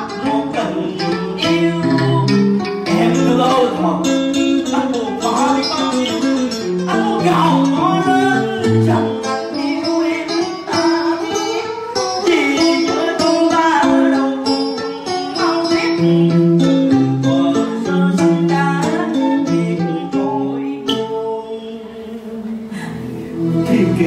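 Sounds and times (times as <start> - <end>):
plucked string instruments: 0.0 - 24.0.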